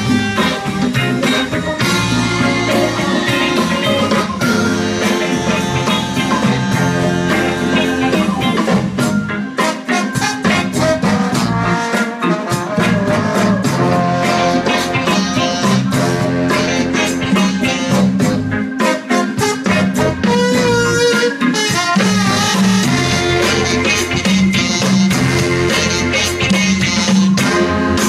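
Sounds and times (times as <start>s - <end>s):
bass guitar: 0.0s - 28.0s
congas: 0.0s - 28.0s
drums: 0.0s - 28.0s
electric guitar: 0.0s - 28.0s
saxophones: 0.0s - 28.0s
trumpet: 0.0s - 28.0s.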